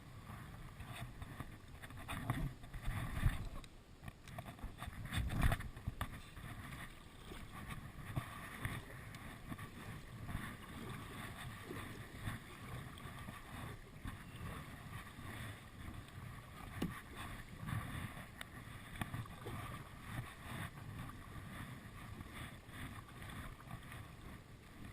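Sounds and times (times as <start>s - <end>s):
water splashing around kayak: 0.0s - 24.9s.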